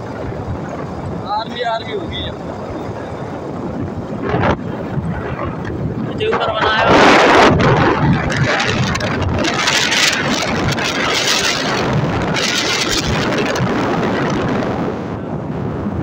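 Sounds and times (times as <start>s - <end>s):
motorcycle running: 0.0s - 16.0s
wind rushing over microphone: 0.0s - 16.0s.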